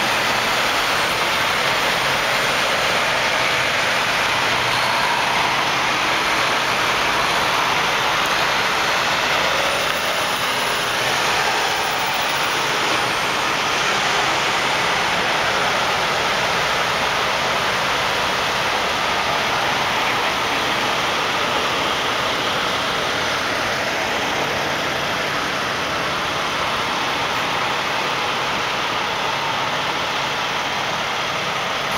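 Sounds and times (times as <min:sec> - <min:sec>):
city street traffic: 0:00.0 - 0:31.9.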